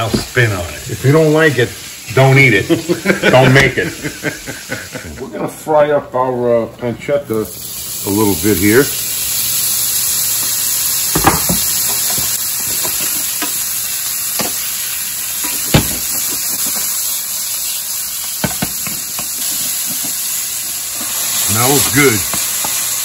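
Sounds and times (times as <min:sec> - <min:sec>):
meat sizzling in a skillet: 0:00.0 - 0:05.6, 0:07.2 - 0:23.0.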